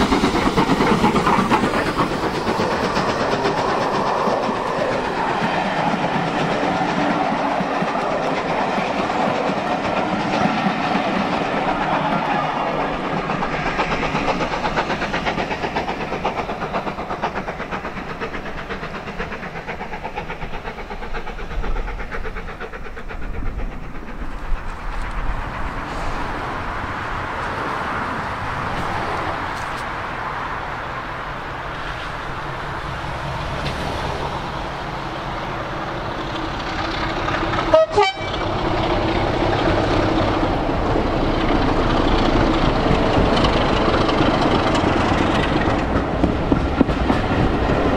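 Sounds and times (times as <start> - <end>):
diesel locomotive engine: 0.0 - 47.9
train wheels clicking over rail joints: 0.0 - 47.9.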